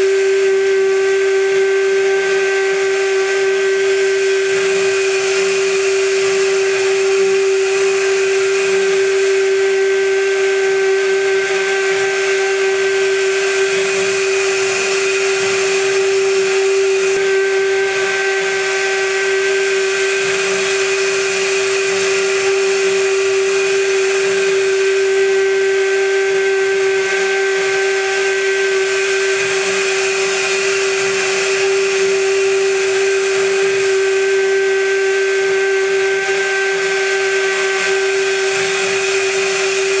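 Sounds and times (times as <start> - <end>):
cutter milling metal hiss: 0.0 - 40.0
spindle whine: 0.0 - 40.0.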